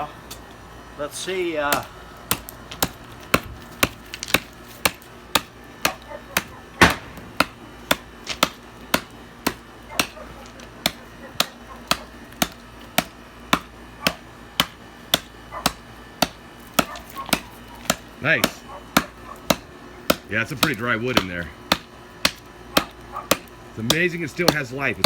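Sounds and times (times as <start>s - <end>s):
hatchet chopping dry wood: 1.4s - 25.0s.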